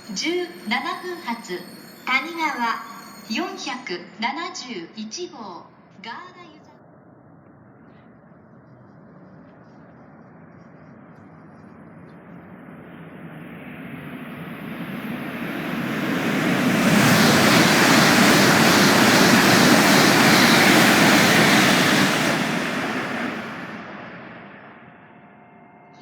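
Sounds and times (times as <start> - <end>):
train rushing past platform: 0.0 - 4.3, 8.4 - 26.0.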